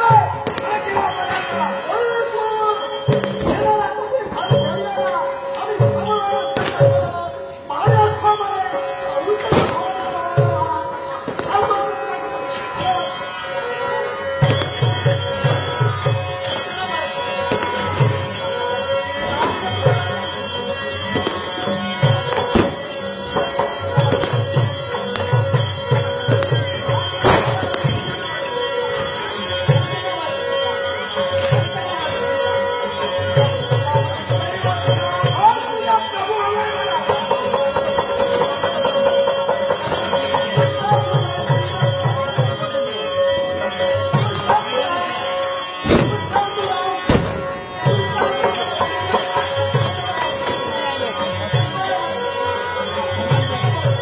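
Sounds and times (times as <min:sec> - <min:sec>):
jingling percussion: 0:00.0 - 0:54.0.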